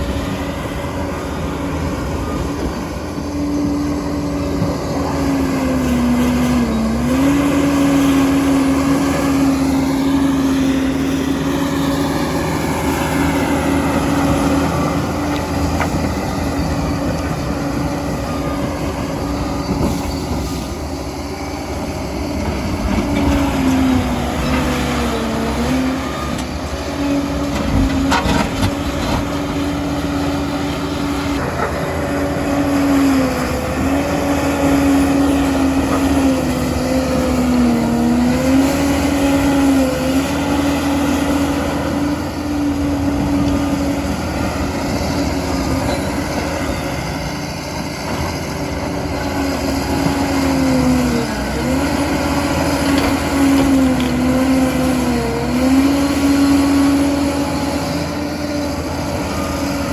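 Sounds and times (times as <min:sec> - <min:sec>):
dozer diesel engine running: 0:00.0 - 0:59.9.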